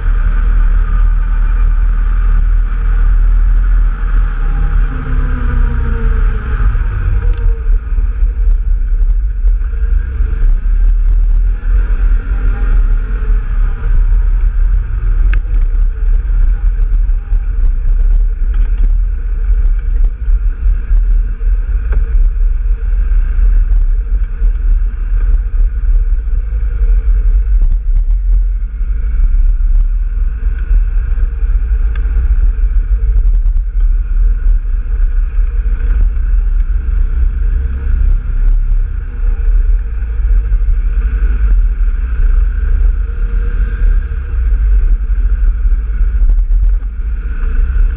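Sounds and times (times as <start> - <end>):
off-road vehicle engine running: 0.0 - 47.9
wind buffeting microphone: 0.0 - 47.9.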